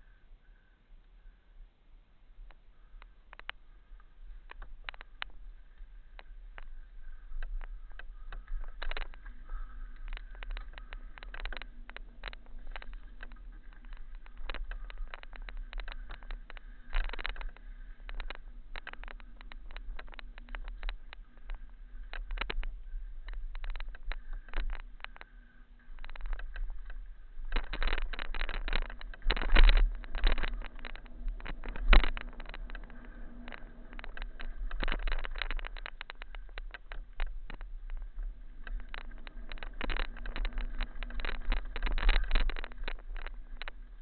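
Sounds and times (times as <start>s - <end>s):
faint steady tone: 0.0s - 44.0s
wind on camera: 2.3s - 44.0s
bike rattling over rocky trail: 2.4s - 44.0s
wheels knocking on stones: 3.3s - 44.0s.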